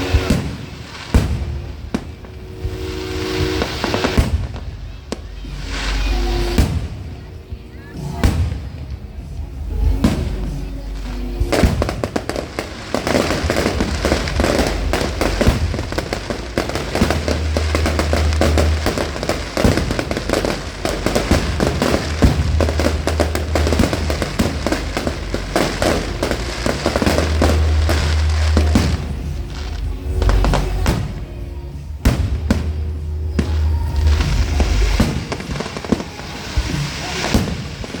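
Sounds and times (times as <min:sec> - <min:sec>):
fireworks crackling and banging: 0:00.0 - 0:38.0.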